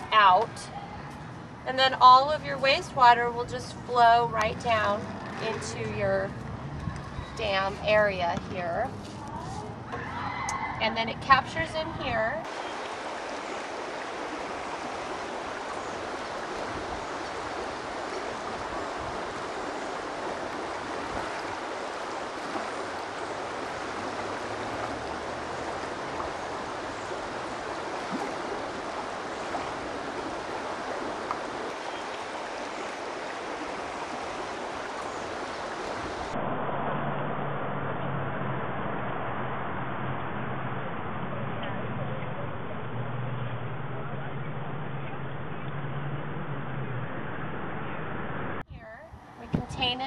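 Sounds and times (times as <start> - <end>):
running water rushing: 0.0 - 48.6.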